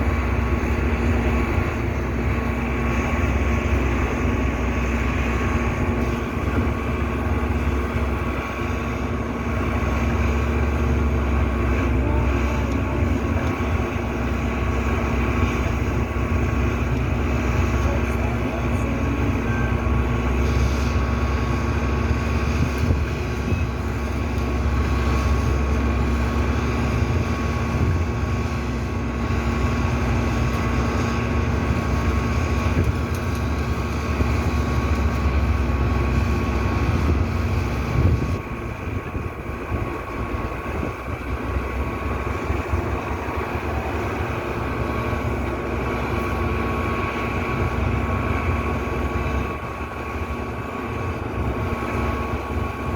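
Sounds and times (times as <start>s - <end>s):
diesel truck engine rumbling: 0.0s - 52.9s.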